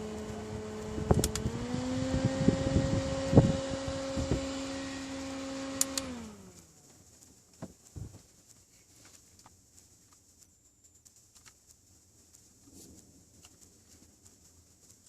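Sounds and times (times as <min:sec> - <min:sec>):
small electric fan whirring: 0:00.0 - 0:15.0.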